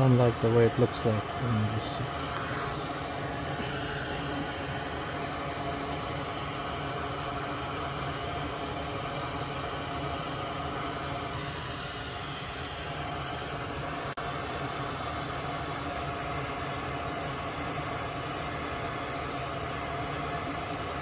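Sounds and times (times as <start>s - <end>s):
steady hiss of air flow: 0.0s - 21.0s.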